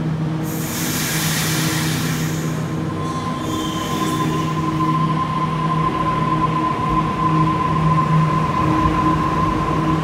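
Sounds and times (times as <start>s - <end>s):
electric train hum with hiss: 0.0s - 10.0s.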